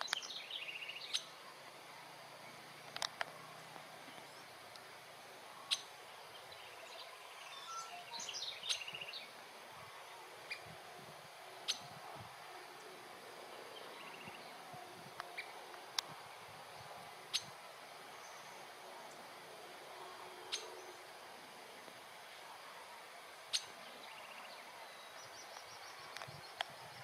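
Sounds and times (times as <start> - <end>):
birds twittering: 0.0 - 4.7, 5.5 - 10.8, 11.6 - 22.4, 23.4 - 27.0.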